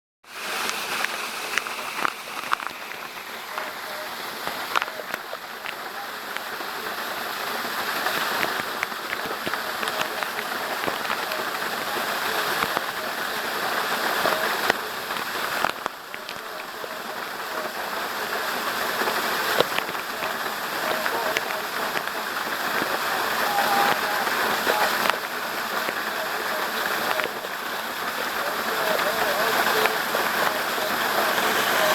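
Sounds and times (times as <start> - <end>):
waterfall rushing: 0.2 - 31.9.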